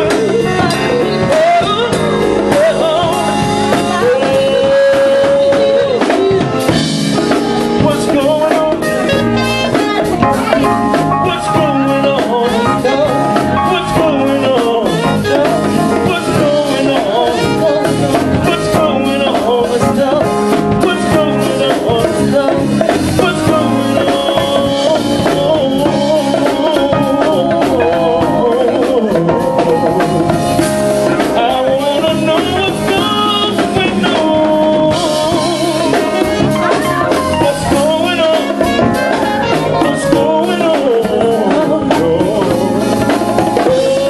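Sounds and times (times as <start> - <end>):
soul band playing: 0.0 - 44.0
wavering lead melody: 0.0 - 44.0.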